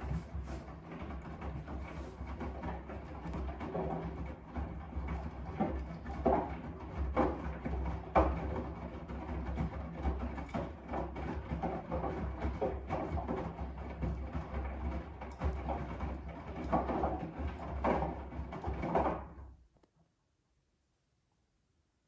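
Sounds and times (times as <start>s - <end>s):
laundry thudding and sloshing in drum: 0.0s - 19.5s.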